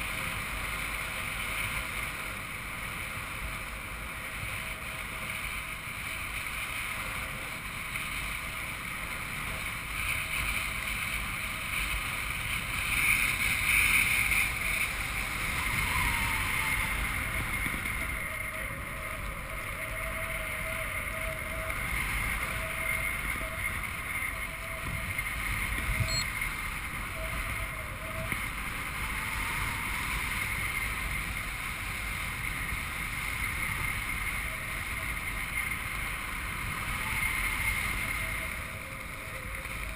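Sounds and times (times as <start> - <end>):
wind rushing across microphone: 0.0 - 39.9.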